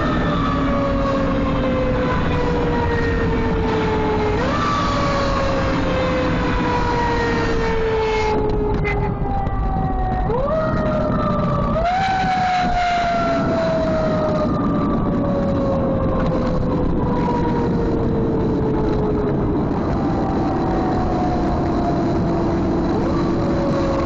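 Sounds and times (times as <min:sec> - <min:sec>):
engine and road rumble: 0:00.0 - 0:24.0.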